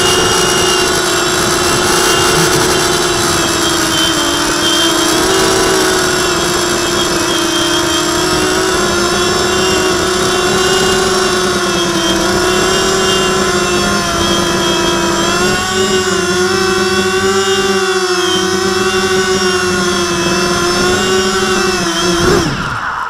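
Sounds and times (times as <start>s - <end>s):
model aircraft motors whirring: 0.0s - 22.9s.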